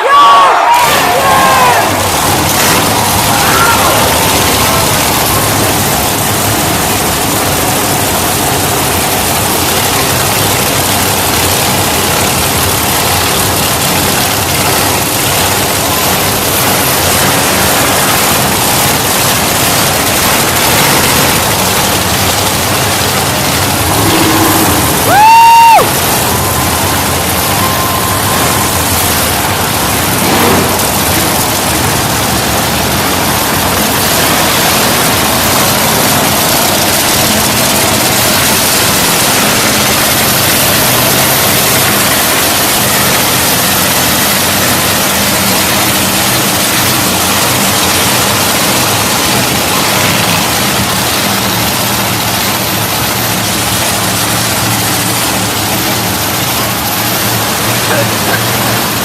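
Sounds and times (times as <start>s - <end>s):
monster truck engine running: 0.0s - 59.0s.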